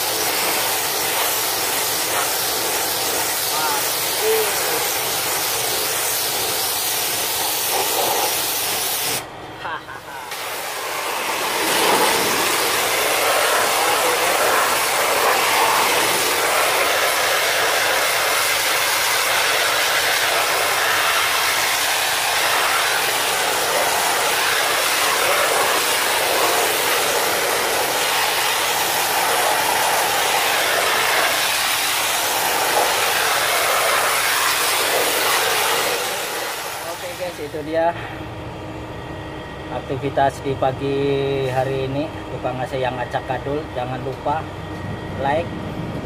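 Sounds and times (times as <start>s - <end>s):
high-pressure water jet hissing: 0.0s - 37.7s.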